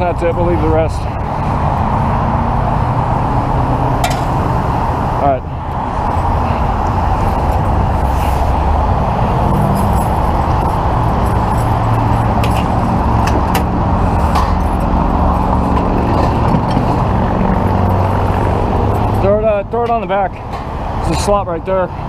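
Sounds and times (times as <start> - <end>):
traffic noise: 0.0 - 22.0
vehicle engine humming: 0.0 - 22.0.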